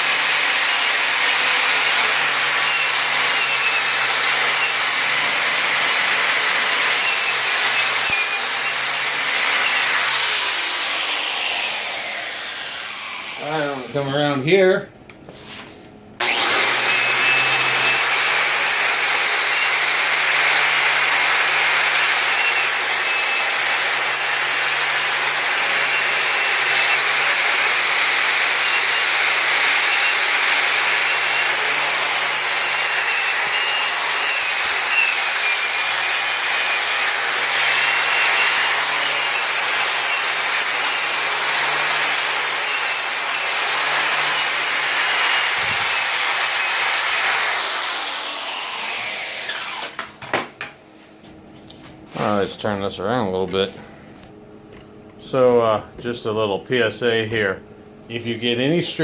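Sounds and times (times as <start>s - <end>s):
electric grinder whining: 0.0s - 14.3s, 16.2s - 50.2s.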